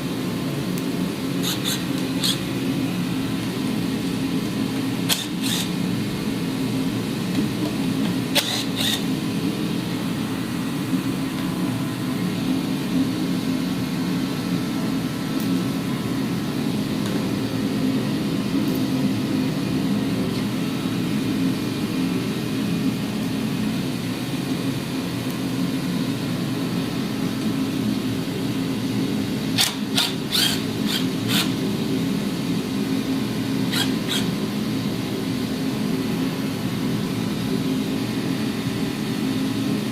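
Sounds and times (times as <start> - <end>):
machine hum: 0.0 - 39.9.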